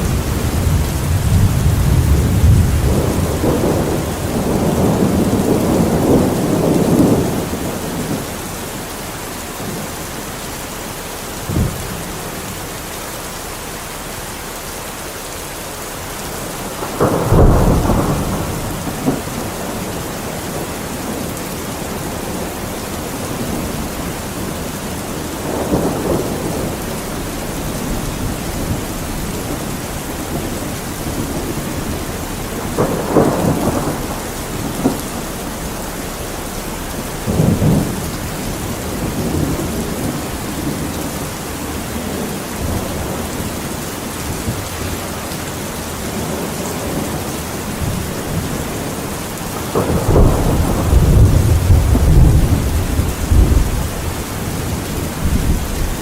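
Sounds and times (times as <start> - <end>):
thunder rumbling: 0.0 - 13.0, 15.7 - 56.0
steady rain: 0.0 - 56.0.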